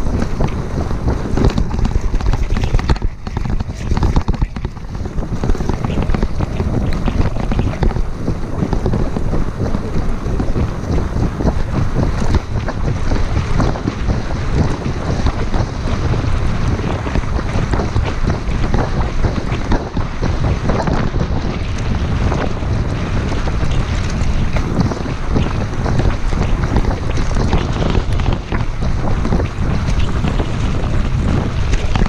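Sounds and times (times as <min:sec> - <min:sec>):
low tyre rumble: 0:00.0 - 0:32.0
wind buffeting microphone: 0:00.0 - 0:32.0.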